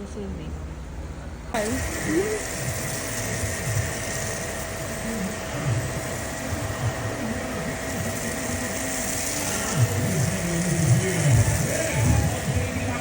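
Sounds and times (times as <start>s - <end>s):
pressure washer running: 1.5s - 13.0s.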